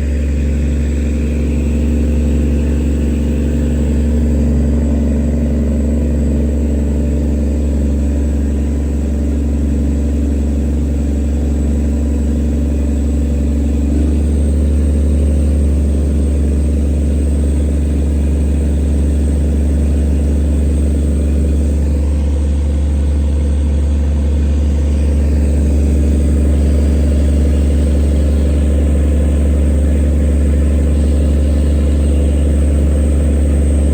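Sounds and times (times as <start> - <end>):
motorboat engine running: 0.0 - 33.9.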